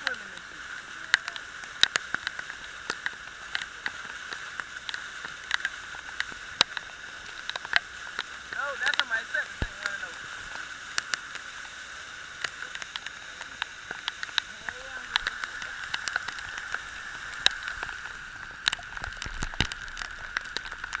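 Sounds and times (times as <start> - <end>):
floodwater hissing: 0.0 - 21.0
sharp clicks: 1.1 - 21.0.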